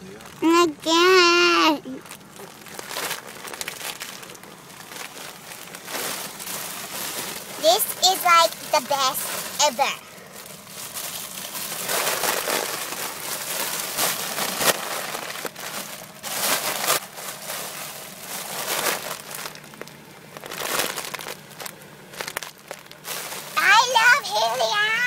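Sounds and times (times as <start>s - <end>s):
foil balloon crinkling: 0.0s - 25.0s.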